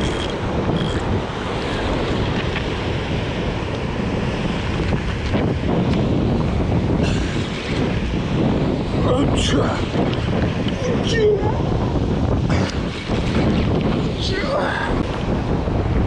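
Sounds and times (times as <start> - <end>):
surf washing over rocks: 0.0 - 16.0
wind buffeting microphone: 0.0 - 16.0.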